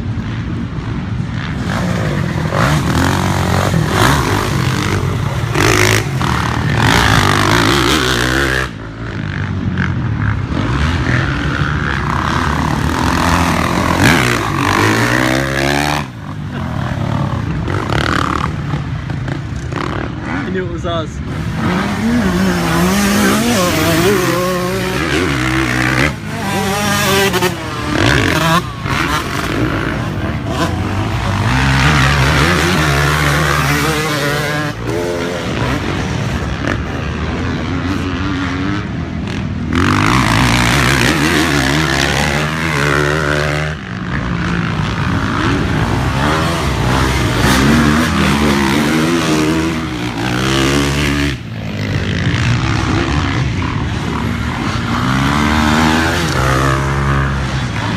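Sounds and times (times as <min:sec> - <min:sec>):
dirt bike engines revving: 0:00.0 - 0:57.9.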